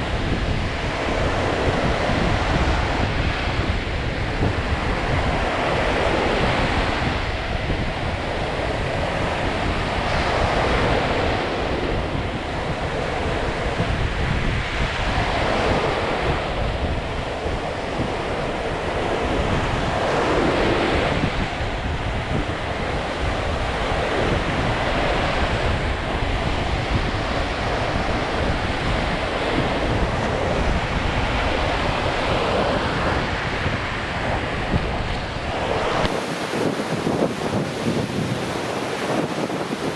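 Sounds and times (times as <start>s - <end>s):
waves breaking on shore: 0.0s - 39.9s
wind rumbling on microphone: 0.0s - 39.9s.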